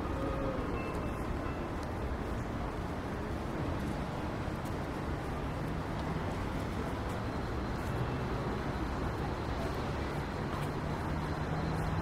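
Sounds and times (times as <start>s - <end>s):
traffic rumble: 0.0s - 12.0s
engine hum: 2.3s - 12.0s.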